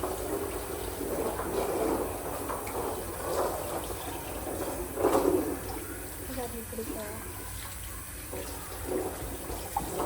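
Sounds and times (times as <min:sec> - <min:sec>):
dishes being washed: 0:00.0 - 0:10.0
water splashing in a sink: 0:00.0 - 0:10.0.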